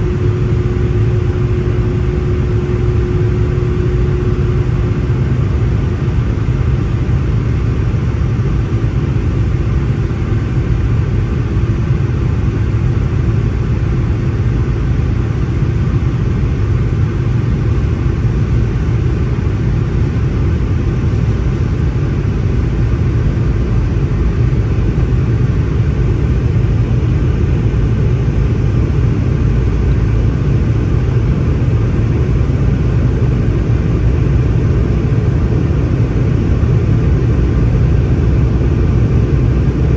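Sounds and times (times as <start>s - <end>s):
faint hum: 0.0s - 39.9s
jet engines low rumble: 0.0s - 39.9s.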